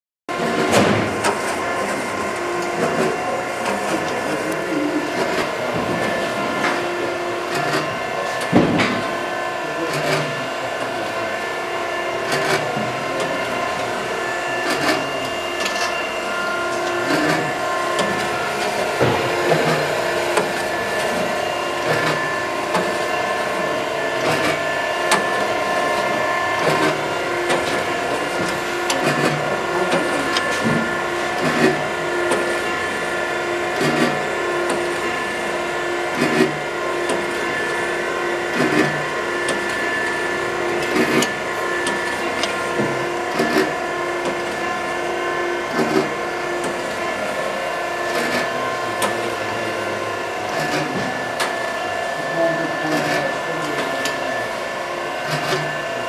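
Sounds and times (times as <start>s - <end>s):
surface grinder humming: 0.3s - 56.0s.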